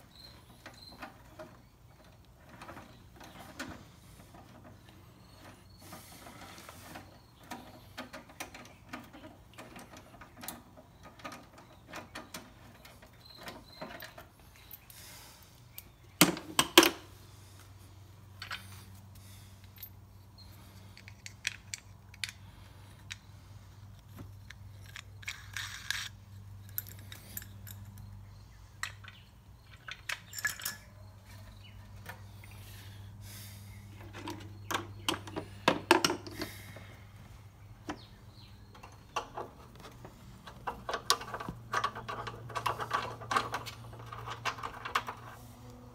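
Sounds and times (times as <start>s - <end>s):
tools and metal parts clinking: 0.0s - 15.0s, 18.3s - 32.7s, 33.8s - 36.6s, 37.9s - 45.4s.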